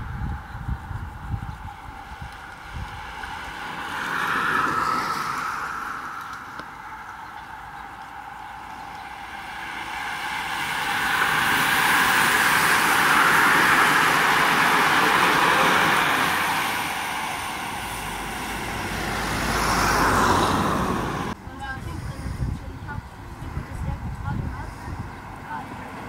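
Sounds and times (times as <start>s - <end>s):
road bikes passing: 0.0s - 26.0s.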